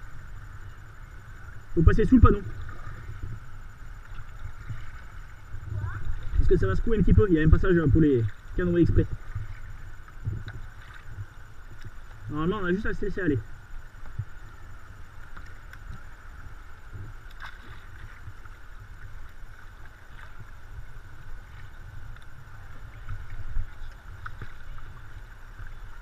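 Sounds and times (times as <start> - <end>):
river water rippling: 0.0 - 26.0
wind rumble on microphone: 0.0 - 26.0.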